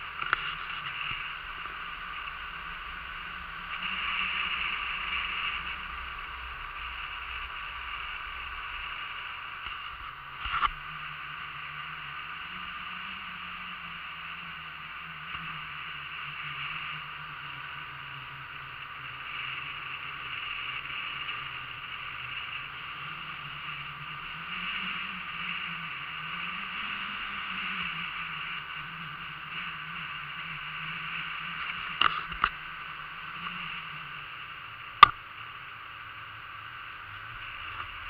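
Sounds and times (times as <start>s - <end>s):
motorboat engine and water drone: 0.0s - 38.0s.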